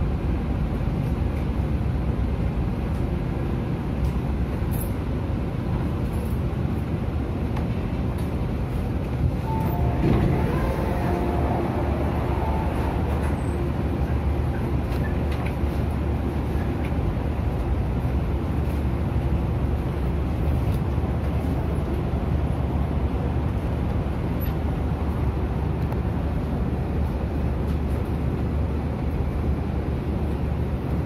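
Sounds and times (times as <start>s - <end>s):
train carriage low rumble: 0.0s - 31.0s.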